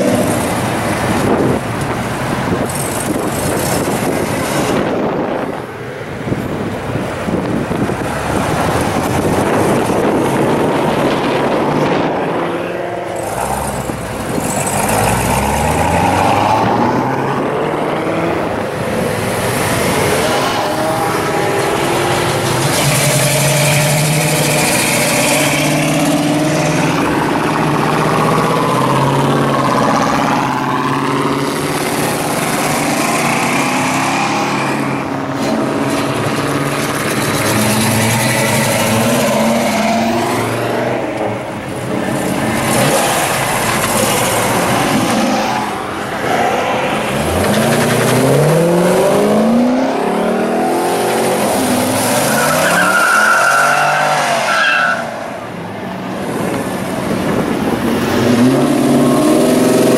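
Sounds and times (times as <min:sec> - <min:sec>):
car engines revving and accelerating: 0:00.0 - 0:59.9.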